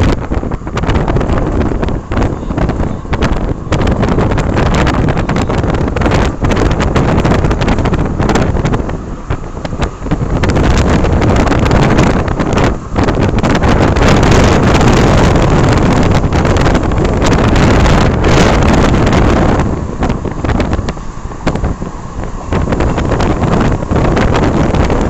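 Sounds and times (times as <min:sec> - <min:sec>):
moving vehicle rumble: 0:00.0 - 0:25.0
wind buffeting microphone: 0:00.0 - 0:25.0.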